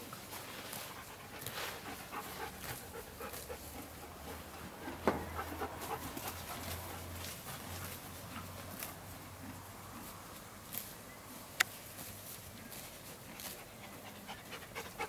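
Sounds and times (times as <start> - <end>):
horse tearing and chewing grass: 0.0 - 15.0.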